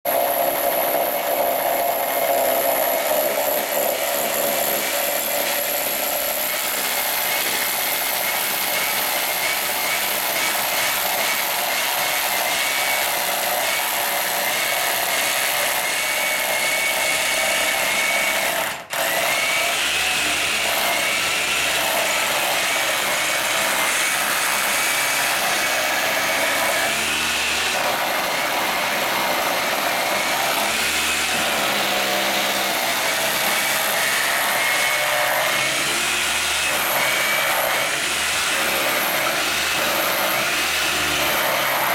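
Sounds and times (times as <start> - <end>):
power tool running with whine: 0.1 - 41.9.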